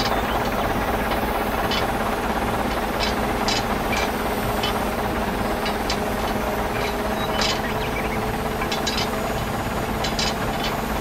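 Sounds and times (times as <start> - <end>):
light clicks of crane and logs: 0.0 - 11.0
model tractor engine running: 0.0 - 11.0.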